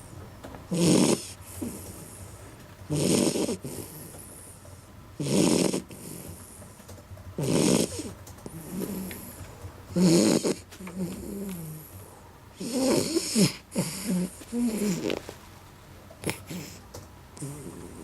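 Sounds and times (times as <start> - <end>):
dog snoring: 0.7 - 4.6, 5.2 - 6.7, 7.4 - 15.3, 16.2 - 18.0.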